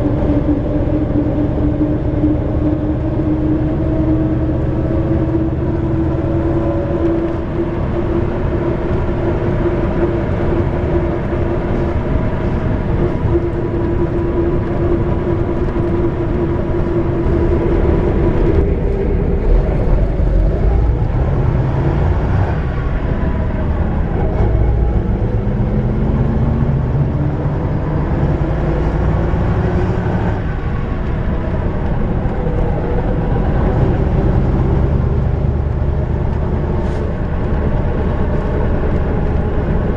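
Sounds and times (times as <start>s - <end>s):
diesel coach engine running: 0.0s - 39.9s
road noise: 0.0s - 39.9s
steady whine: 0.0s - 39.9s.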